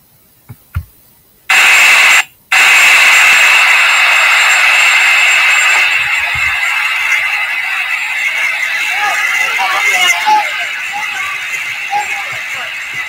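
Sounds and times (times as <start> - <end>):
loud rushing noise with whine: 1.5 - 13.0.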